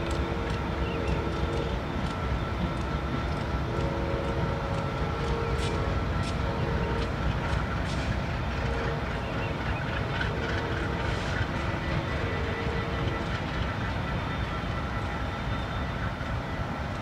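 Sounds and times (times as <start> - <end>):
diesel locomotives rumbling: 0.0 - 17.0.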